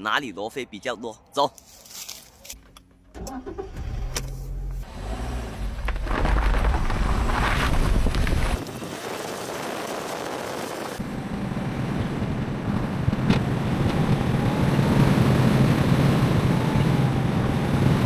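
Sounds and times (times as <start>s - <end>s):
car road and wind noise: 3.1s - 18.0s.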